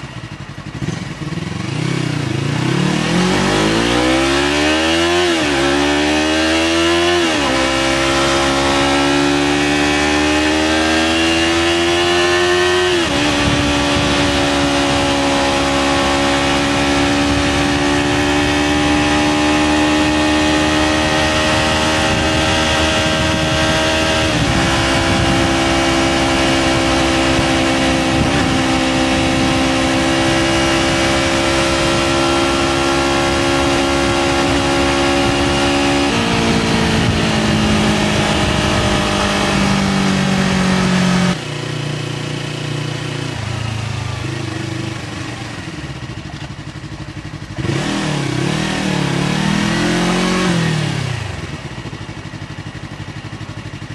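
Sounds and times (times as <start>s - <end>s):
motorcycle engine riding: 0.0s - 53.9s.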